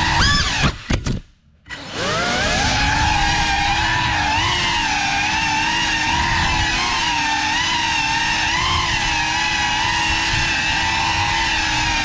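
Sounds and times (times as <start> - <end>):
drone motors whining: 0.0 - 1.0, 1.6 - 12.0.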